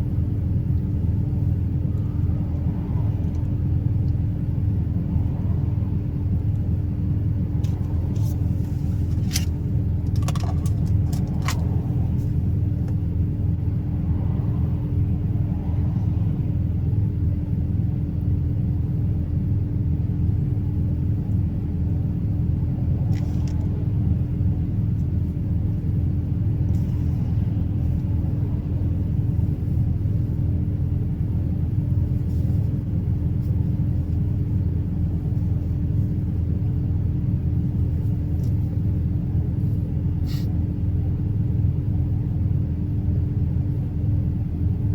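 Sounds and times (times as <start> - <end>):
constant hum: 0.0 - 44.9
truck engine and road drone: 0.0 - 44.9.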